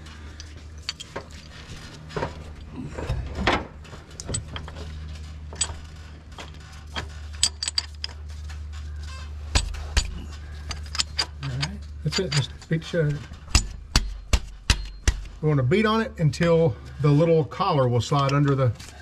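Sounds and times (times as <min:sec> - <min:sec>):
knocks and metallic clinks: 0:00.0 - 0:15.4
steady low hum: 0:00.0 - 0:19.0.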